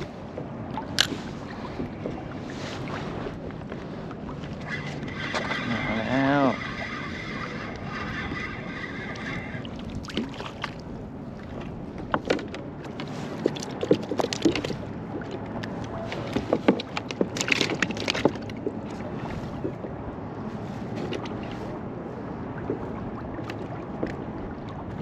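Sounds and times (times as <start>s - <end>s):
water: 0.0s - 25.0s
wind: 0.0s - 25.0s.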